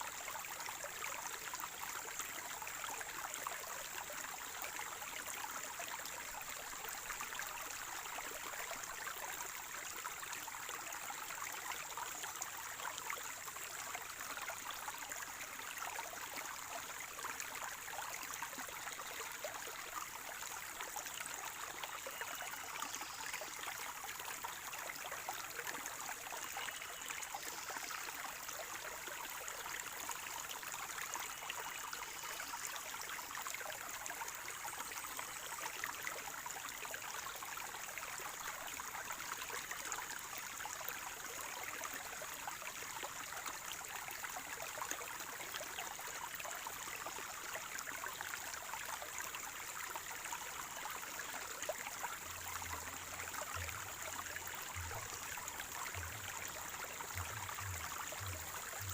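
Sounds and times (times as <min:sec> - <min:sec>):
stream water gurgling: 0:00.0 - 0:58.9.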